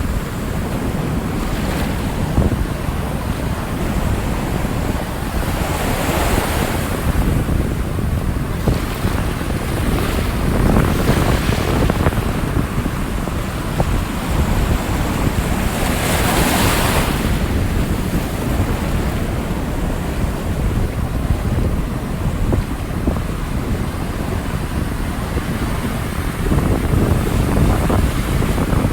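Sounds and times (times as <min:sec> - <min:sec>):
waves breaking: 0:00.0 - 0:28.9
wind buffeting microphone: 0:00.0 - 0:28.9.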